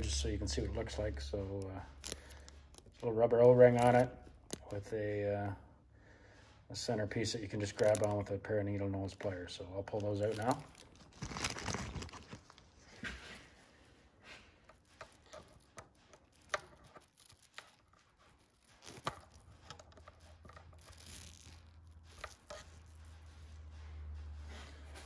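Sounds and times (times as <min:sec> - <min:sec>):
rustling handling noise: 0:00.0 - 0:05.6, 0:06.8 - 0:25.0.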